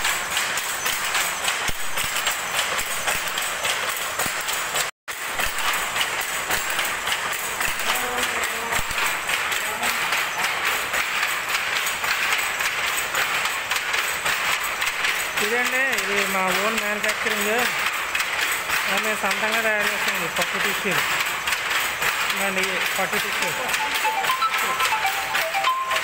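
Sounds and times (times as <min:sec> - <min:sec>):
power loom clattering: 0:00.0 - 0:26.0.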